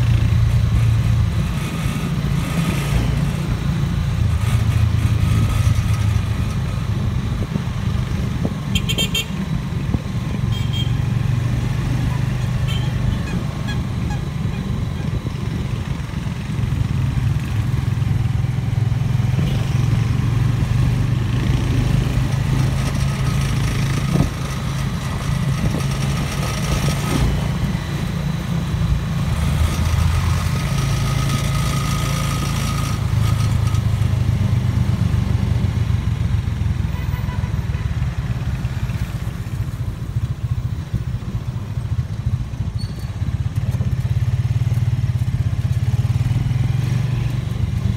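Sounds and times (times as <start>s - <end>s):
motorcycle engine running: 0.0s - 47.9s
road noise: 0.0s - 47.9s.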